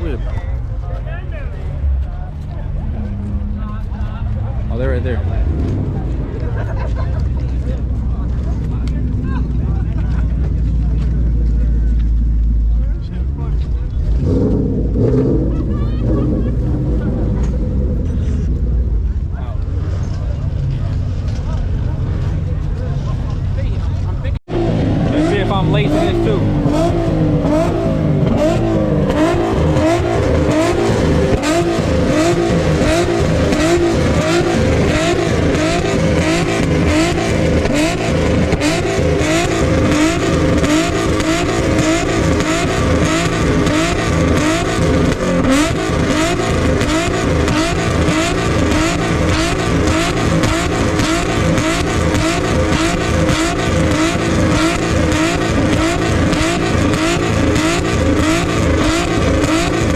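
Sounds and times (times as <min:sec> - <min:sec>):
car engines revving: 0:00.0 - 0:59.9
engine running steadily: 0:00.0 - 0:59.9.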